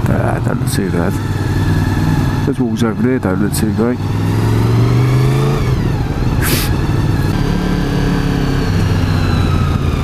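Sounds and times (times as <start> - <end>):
motorcycle engine at low speed: 0.0 - 10.0.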